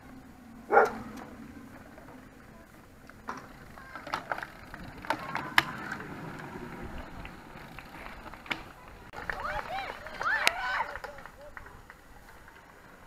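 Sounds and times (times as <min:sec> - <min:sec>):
bicycle tyres rushing past: 0:00.0 - 0:13.0.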